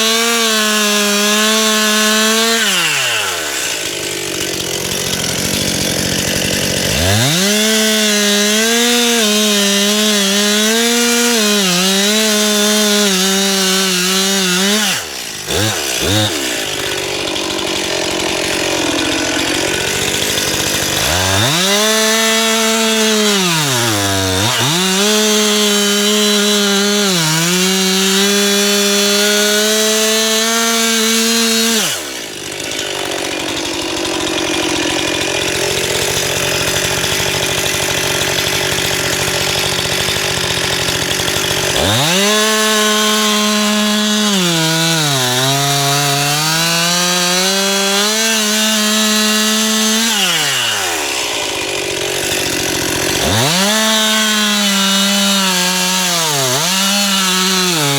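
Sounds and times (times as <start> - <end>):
chainsaw cutting log: 0.0 - 57.9.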